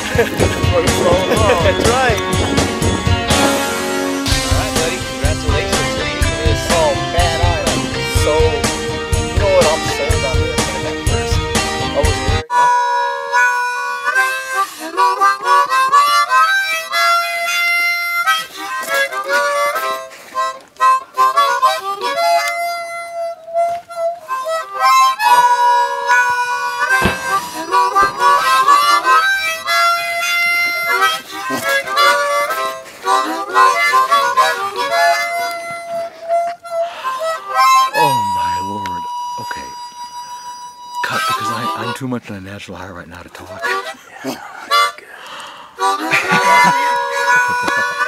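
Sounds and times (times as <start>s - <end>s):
instrumental background music: 0.0s - 48.0s.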